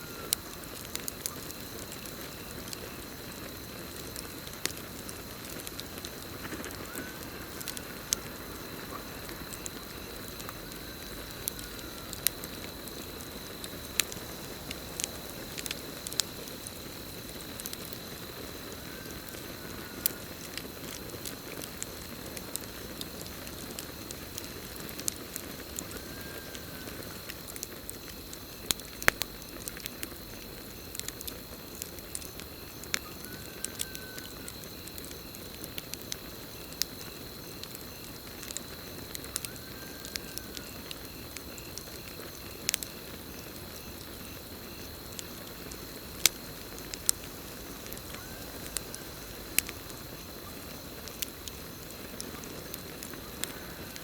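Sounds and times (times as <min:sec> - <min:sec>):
campfire crackling and popping: 0:00.0 - 0:54.0
crickets chirring: 0:00.0 - 0:54.0.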